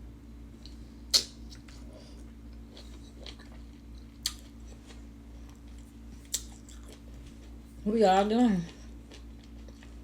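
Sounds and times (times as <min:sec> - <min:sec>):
person chewing crunchy food: 0:00.7 - 0:07.8, 0:08.7 - 0:10.0.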